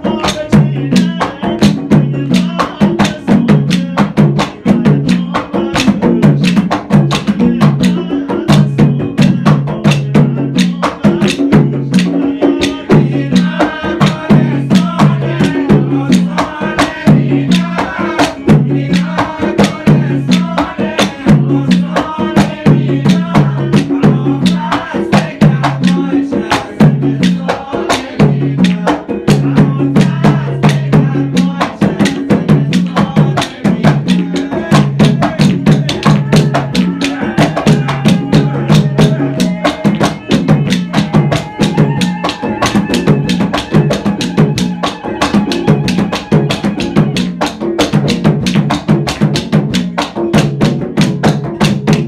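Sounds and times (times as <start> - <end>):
percussion-driven background music: 0.0 - 52.0.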